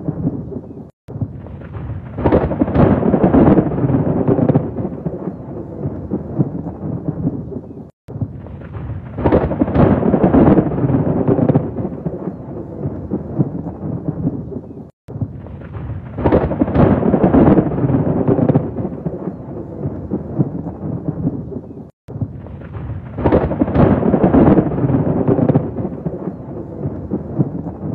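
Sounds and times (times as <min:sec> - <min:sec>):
loud crackling thunder peals: 0:00.0 - 0:27.9
rolling thunder: 0:00.0 - 0:27.9.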